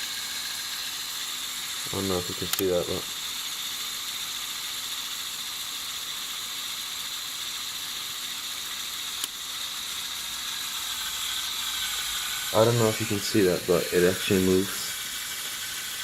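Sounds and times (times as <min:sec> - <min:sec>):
toy motor whirring through plastic gears: 0:00.0 - 0:16.0.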